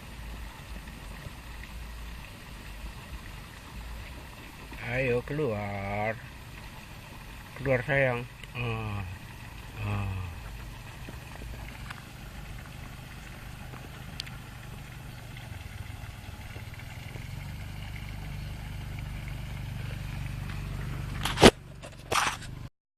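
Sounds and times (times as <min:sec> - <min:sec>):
low engine hum: 0:00.0 - 0:22.7.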